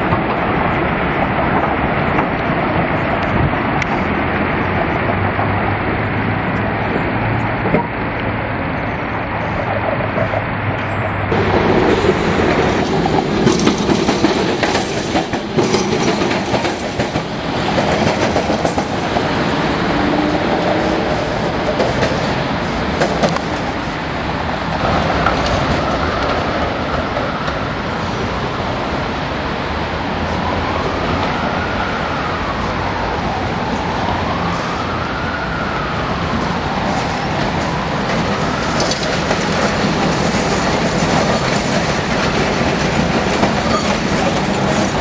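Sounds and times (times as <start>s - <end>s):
tram wheels rumbling over rails: 0.0s - 45.0s.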